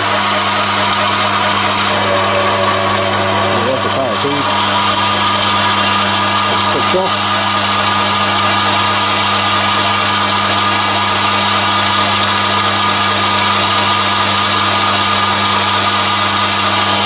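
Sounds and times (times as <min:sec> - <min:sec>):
lathe humming and whining: 0:00.0 - 0:17.0.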